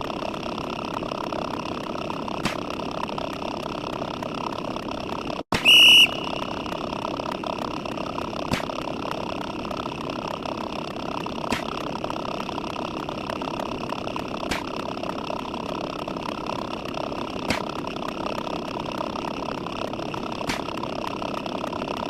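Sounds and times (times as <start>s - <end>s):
steady noisy background: 0.0s - 22.0s.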